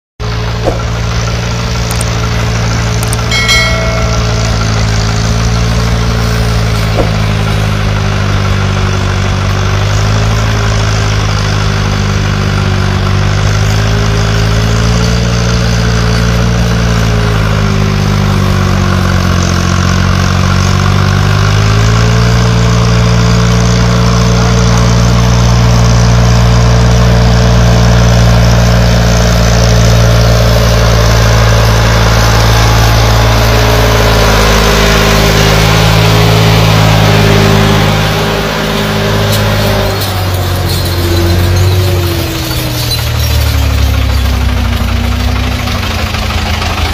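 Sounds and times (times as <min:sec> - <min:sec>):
diesel tractor engine running: 0:00.2 - 0:46.9.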